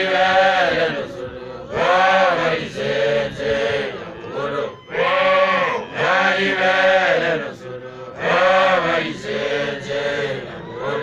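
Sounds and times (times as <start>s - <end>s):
group of voices chanting: 0.0s - 11.0s.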